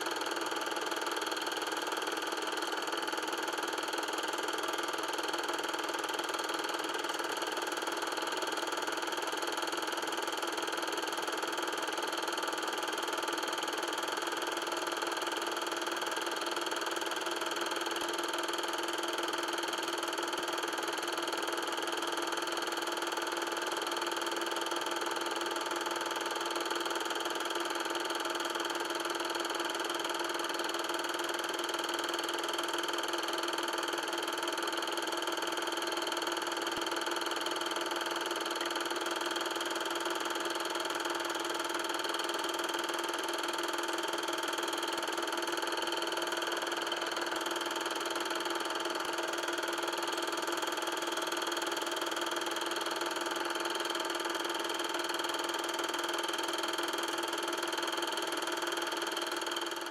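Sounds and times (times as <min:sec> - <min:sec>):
film projector humming and whirring: 0:00.0 - 0:59.9.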